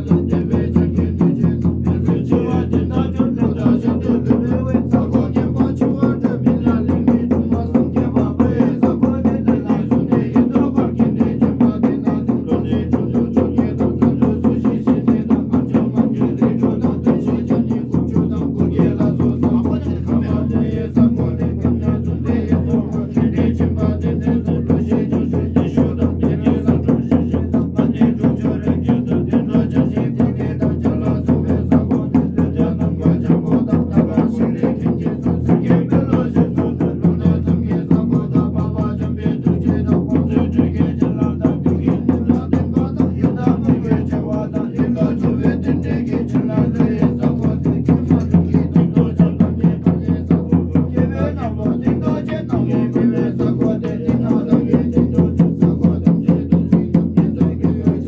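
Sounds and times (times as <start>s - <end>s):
deep ritual drone with fast pulse: 0.0s - 58.0s.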